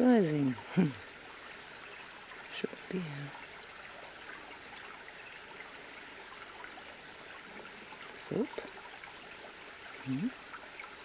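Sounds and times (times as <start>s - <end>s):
stream trickling: 0.0s - 11.0s.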